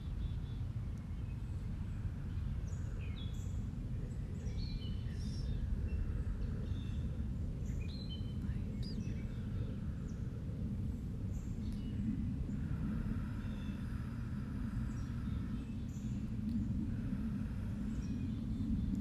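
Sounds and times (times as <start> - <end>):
steady low rumble: 0.0 - 19.0
wild birds chirping and whistling: 0.0 - 19.0.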